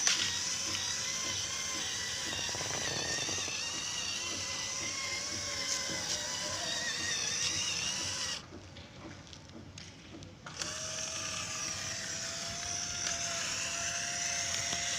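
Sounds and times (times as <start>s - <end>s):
small electric motor whining: 0.0s - 8.4s, 10.5s - 14.9s.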